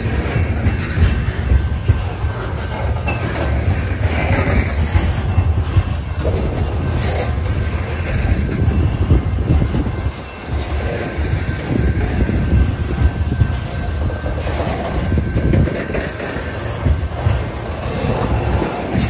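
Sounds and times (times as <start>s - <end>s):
train wheels rumbling on rail: 0.0s - 19.0s
wheels clattering over rail joints: 0.0s - 19.0s.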